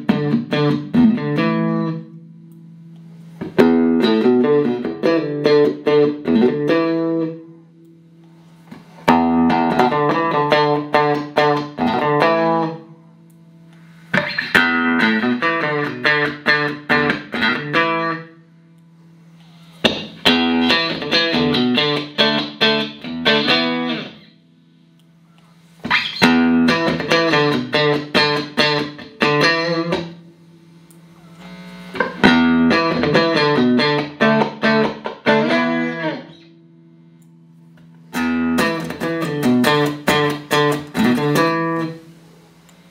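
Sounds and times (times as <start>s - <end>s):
clean electric guitar picking: 0.0s - 42.9s.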